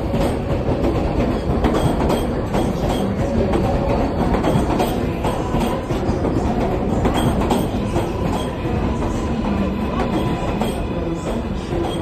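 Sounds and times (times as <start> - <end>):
subway train rumbling past: 0.0 - 12.0.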